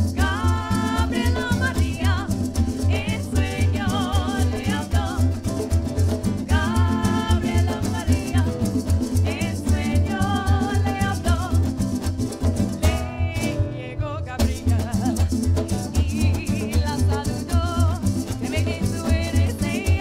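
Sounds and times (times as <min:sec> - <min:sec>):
women singing: 0:00.0 - 0:11.8, 0:12.8 - 0:15.2, 0:15.8 - 0:20.0
strummed acoustic guitars: 0:00.0 - 0:20.0.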